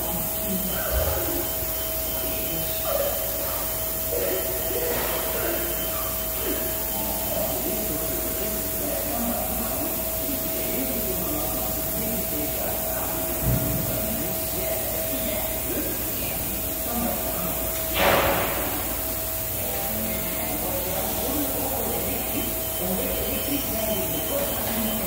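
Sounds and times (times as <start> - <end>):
machining centre whining: 0.0 - 25.0.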